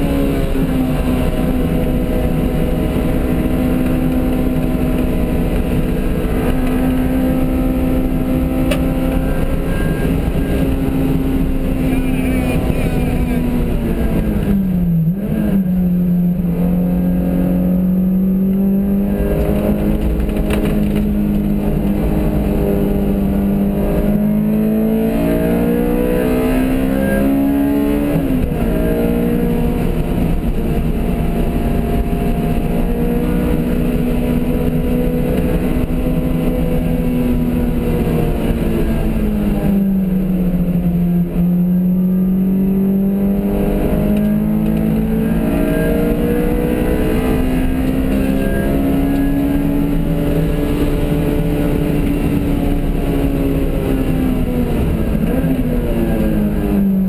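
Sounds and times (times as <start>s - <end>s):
car engine under load: 0.0s - 57.0s
low road rumble: 0.0s - 57.0s.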